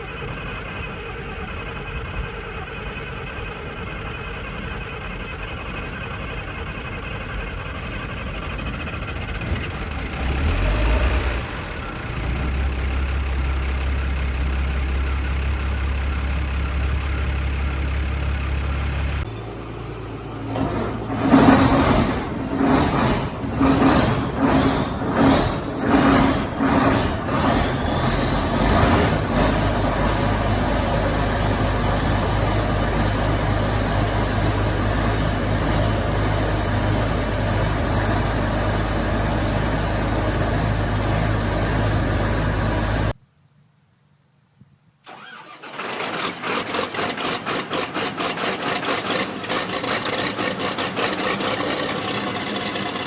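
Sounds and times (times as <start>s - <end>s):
diesel engine cranking and idling: 0.0s - 43.2s, 45.0s - 53.0s.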